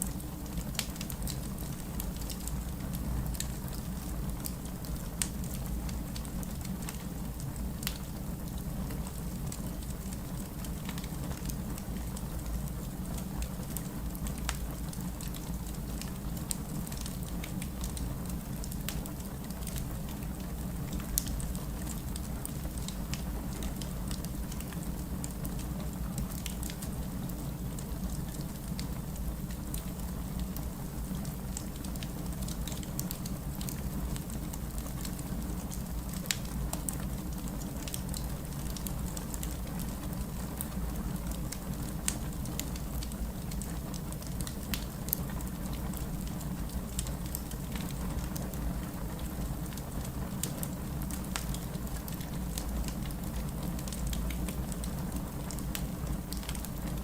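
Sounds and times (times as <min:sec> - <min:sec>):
fireplace crackling and popping: 0:00.0 - 0:57.0
steady rain: 0:00.0 - 0:57.0.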